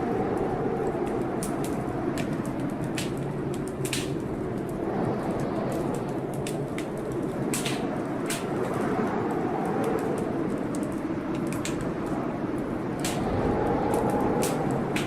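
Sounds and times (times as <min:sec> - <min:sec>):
blizzard wind moaning: 0:00.0 - 0:15.0
wood fire crackling and popping: 0:00.0 - 0:15.0.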